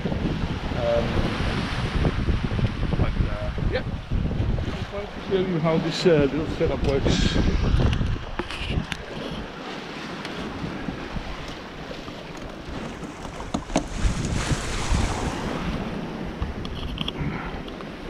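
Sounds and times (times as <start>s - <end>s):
water washing along hull: 0.0s - 18.0s
wind buffeting microphone: 0.0s - 18.0s.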